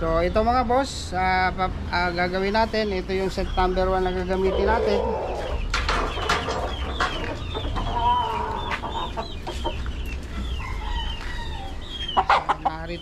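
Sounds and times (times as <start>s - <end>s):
chickens clucking: 2.0s - 13.0s.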